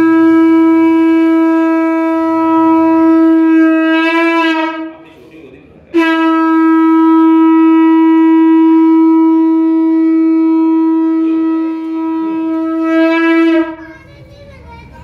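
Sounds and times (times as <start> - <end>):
conch shell blown: 0.0 - 5.0, 5.9 - 13.8.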